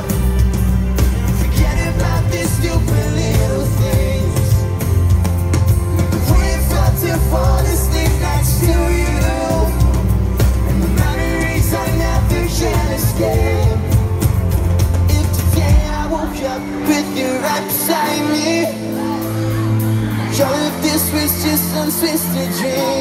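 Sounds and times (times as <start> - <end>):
person singing: 0.0 - 5.2, 5.9 - 23.0
bass: 0.0 - 23.0
drums: 0.0 - 23.0.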